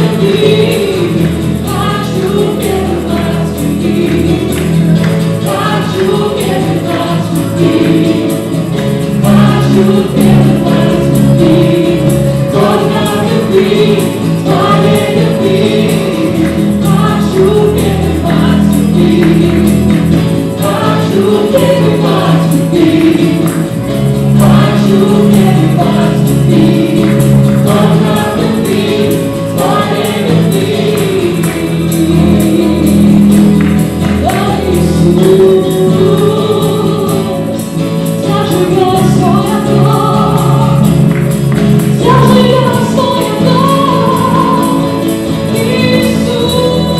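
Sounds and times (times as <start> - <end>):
acoustic guitar: 0.0 - 46.9
electric bass: 0.0 - 46.9
keyboard: 0.0 - 46.9
voices singing together: 0.0 - 46.9.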